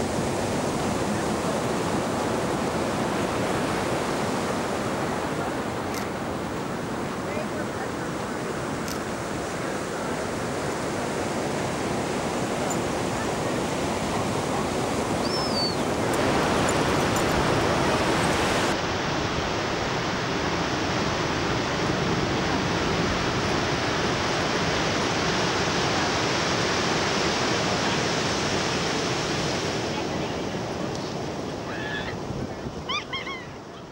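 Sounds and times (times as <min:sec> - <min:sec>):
ocean waves breaking: 0:00.0 - 0:33.9.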